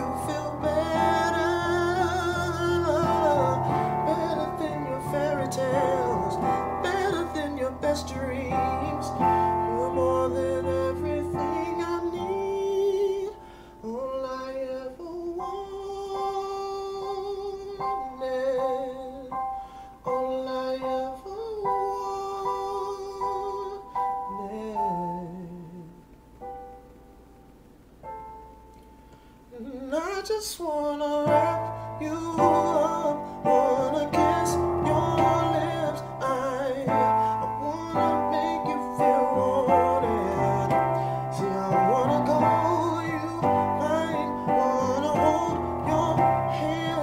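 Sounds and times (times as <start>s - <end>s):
electronic keyboard chords: 0.0s - 14.0s, 15.2s - 29.9s, 31.0s - 47.0s
wordless singing with vibrato: 0.0s - 26.2s, 29.4s - 47.0s.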